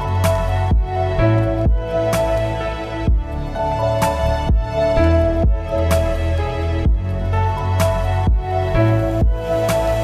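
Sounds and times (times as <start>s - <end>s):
synth music with low kick: 0.0s - 10.0s.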